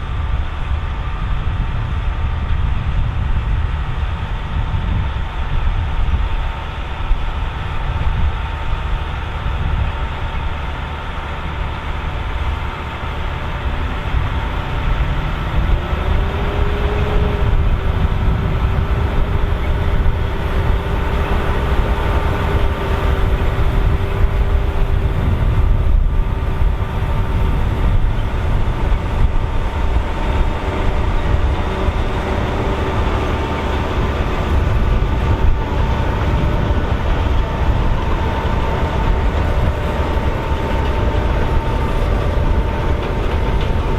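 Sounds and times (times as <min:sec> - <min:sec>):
tractor running under load: 0:00.0 - 0:43.9
harvester mechanical rattle: 0:04.9 - 0:43.9.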